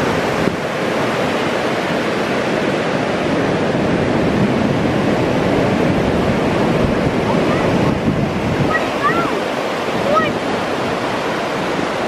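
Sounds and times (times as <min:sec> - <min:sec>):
ocean surf: 0:00.0 - 0:12.0.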